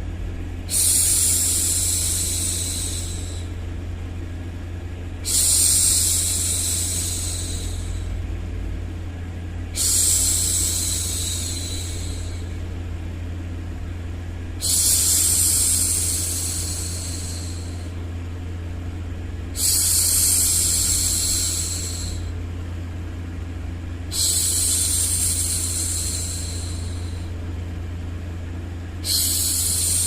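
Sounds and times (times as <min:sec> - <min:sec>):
low rumbling noise: 0:00.0 - 0:30.0.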